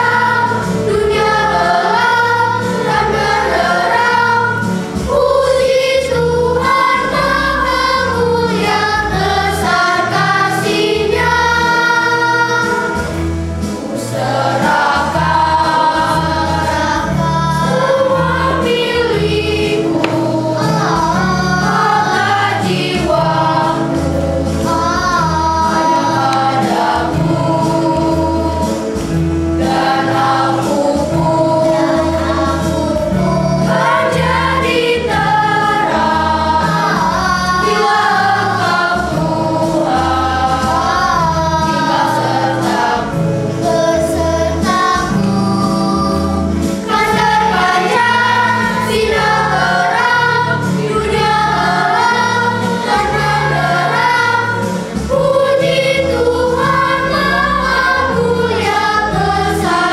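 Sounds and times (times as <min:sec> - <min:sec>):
children's choir singing: 0:00.0 - 0:59.9
instrumental accompaniment: 0:00.0 - 0:59.9.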